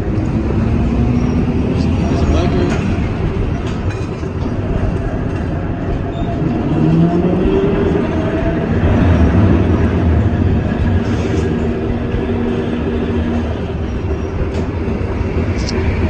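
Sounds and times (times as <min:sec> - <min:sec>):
streetcar wheels rumbling: 0:00.0 - 0:16.0.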